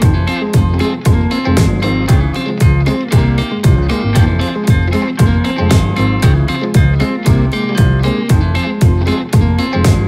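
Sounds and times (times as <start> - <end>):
plucked guitar: 0.0 - 10.0
steady beat: 0.0 - 10.0.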